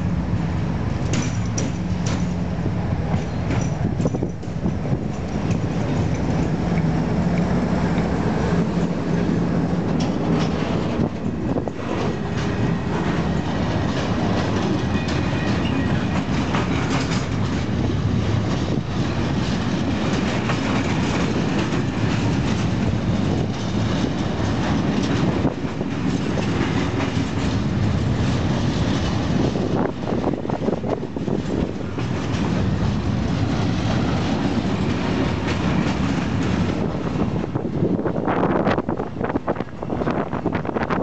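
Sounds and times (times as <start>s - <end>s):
diesel locomotive engine hum: 0.0s - 41.0s
train wheels clattering over joints: 0.9s - 39.2s.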